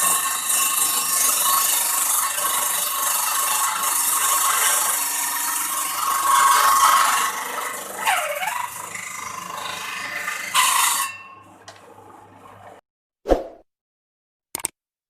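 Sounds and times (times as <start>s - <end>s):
table saw cutting wood: 0.0s - 12.8s.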